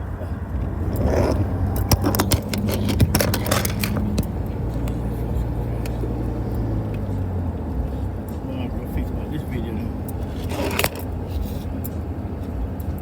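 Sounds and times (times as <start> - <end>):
car road and engine hum: 0.0 - 13.0
sharp clicks and rattles: 0.5 - 13.0.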